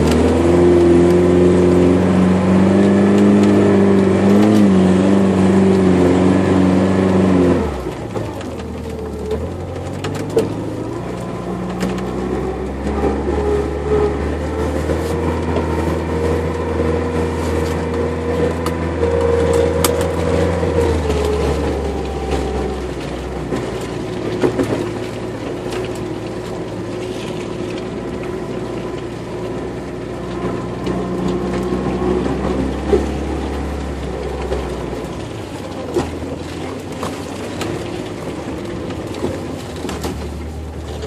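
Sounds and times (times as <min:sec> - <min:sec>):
off-road vehicle engine running: 0:00.0 - 0:41.0.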